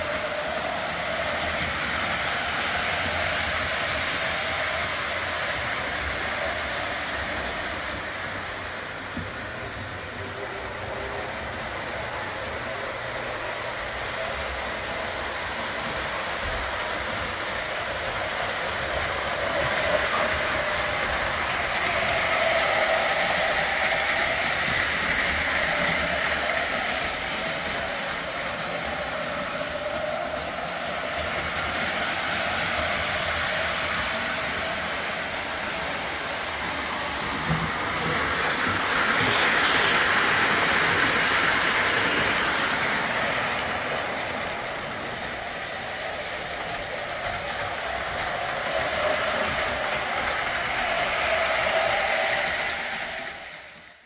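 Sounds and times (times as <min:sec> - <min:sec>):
model train whirring rattle: 0:00.0 - 0:54.0.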